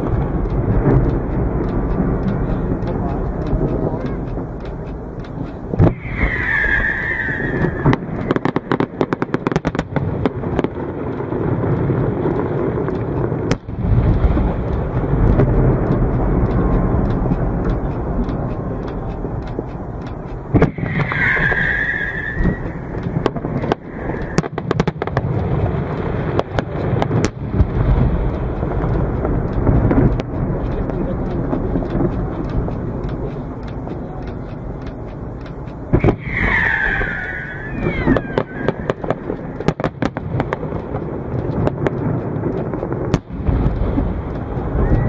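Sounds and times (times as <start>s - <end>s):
fireworks booming bursts: 0.0s - 35.3s, 35.9s - 45.0s
fireworks crackling pops: 0.0s - 45.0s.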